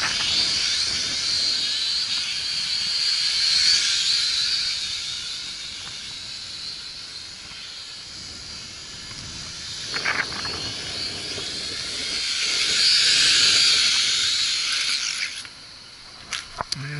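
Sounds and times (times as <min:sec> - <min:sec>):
drone propellers whining: 0:00.0 - 0:16.9.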